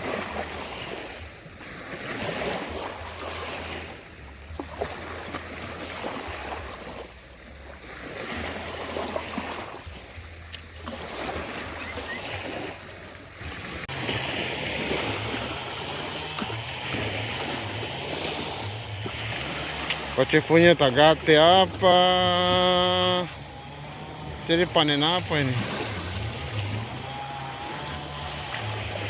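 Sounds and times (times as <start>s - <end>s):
water washing in swells: 0.0s - 29.0s
low wavering hum: 2.6s - 29.0s.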